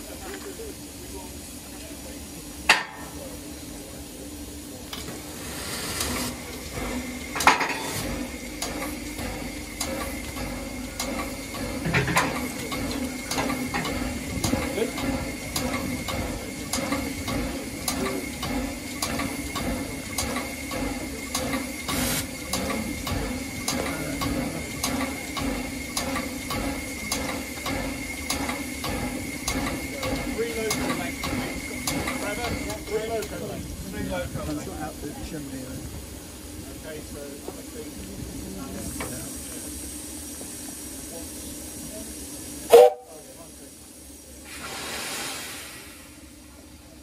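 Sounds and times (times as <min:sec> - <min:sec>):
metallic clatter of train: 0:00.0 - 0:00.8, 0:02.6 - 0:47.0
steam train running noise: 0:00.0 - 0:47.0.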